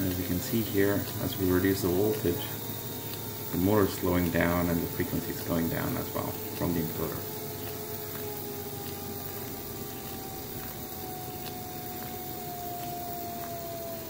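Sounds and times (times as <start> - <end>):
small motor whine falling in pitch: 0.0 - 14.0.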